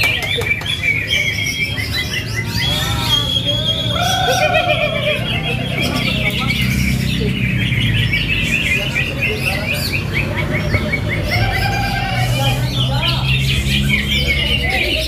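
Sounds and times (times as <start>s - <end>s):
birds chirping and trilling: 0.0s - 15.0s
crowd murmur: 0.0s - 15.0s.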